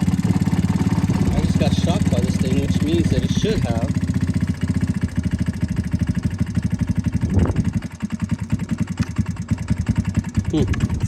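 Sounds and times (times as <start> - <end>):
small engine idling rough: 0.0 - 11.0.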